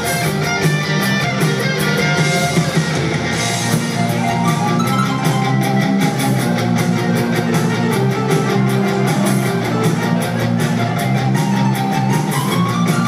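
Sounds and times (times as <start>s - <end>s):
bass guitar: 0.0s - 13.0s
drums playing driving beat: 0.0s - 13.0s
electric guitar: 0.0s - 13.0s.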